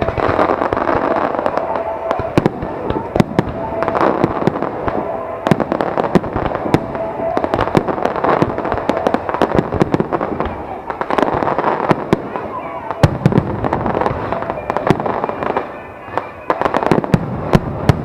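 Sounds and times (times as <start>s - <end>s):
continuous rumbling: 0.0s - 18.0s
fireworks bursting with sharp bangs: 0.0s - 18.0s.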